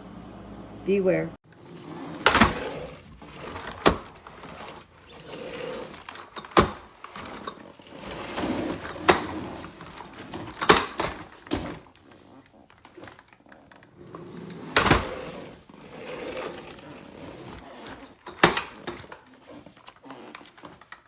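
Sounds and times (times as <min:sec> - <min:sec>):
rubbing and shuffling: 0:01.4 - 0:13.4, 0:14.0 - 0:21.0
plastic parts clicking and knocking: 0:01.5 - 0:13.9, 0:14.7 - 0:21.0.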